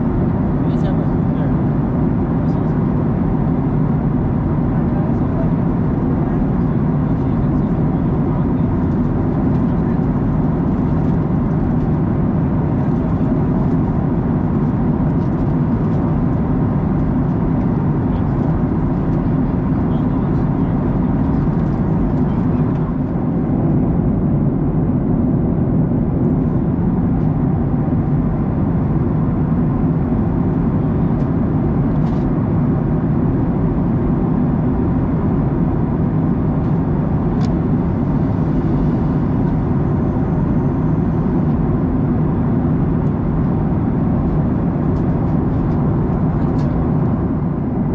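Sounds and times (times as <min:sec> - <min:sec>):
jet engine drone: 0:00.0 - 0:47.9.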